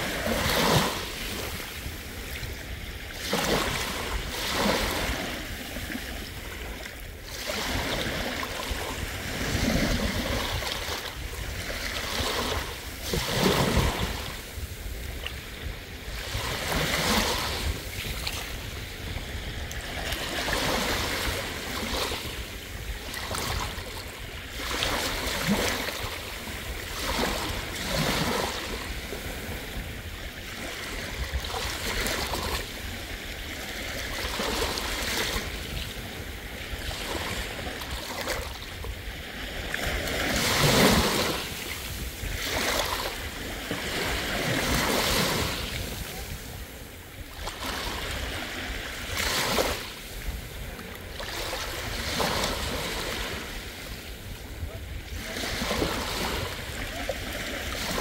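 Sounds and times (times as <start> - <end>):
sea waves washing onto beach: 0.0 - 58.0.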